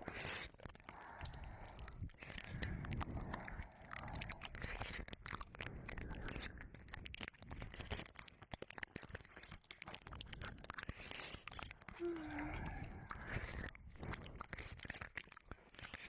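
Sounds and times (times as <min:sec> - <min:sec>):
tongue clicks and smacks: 0:00.0 - 0:16.0
wet mouth sounds and licking: 0:00.0 - 0:16.0.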